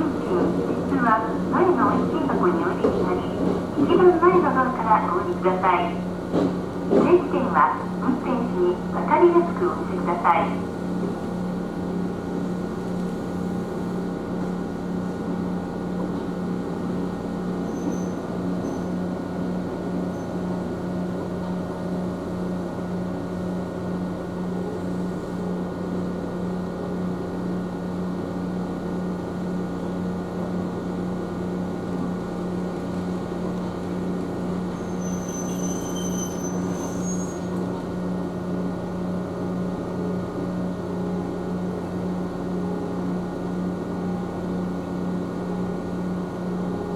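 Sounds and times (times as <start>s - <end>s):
electric train hum: 0.0s - 46.9s.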